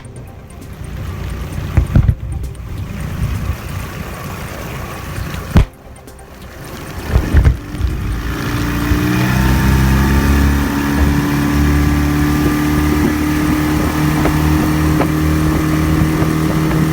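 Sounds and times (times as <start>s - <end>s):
boat engine running: 0.0s - 16.9s.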